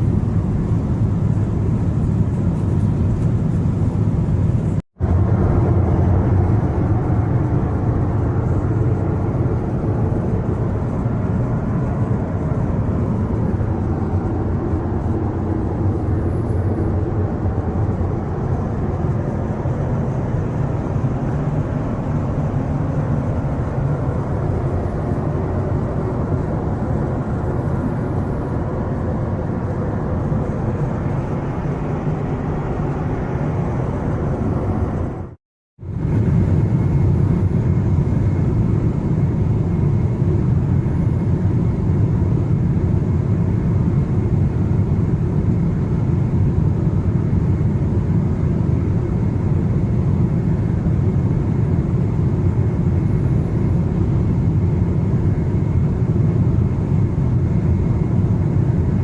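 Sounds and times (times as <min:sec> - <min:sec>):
airliner cabin engine roar: 0:00.0 - 0:59.0.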